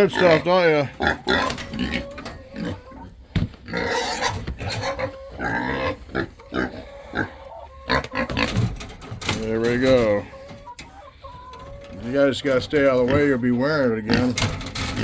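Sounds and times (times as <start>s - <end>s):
pigs grunting: 0.0s - 8.7s, 9.5s - 15.0s.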